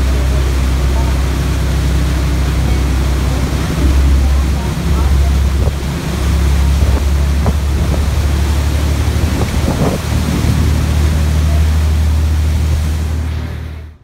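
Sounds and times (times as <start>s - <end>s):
boat engine droning: 0.0s - 14.0s
churning wake rushing: 0.0s - 14.0s
wind: 0.0s - 14.0s.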